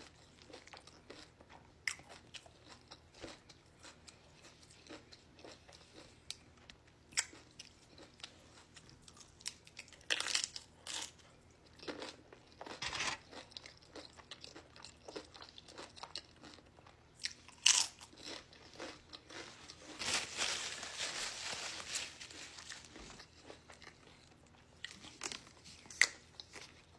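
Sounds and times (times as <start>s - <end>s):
chewing and crunching chips: 0.0s - 26.9s.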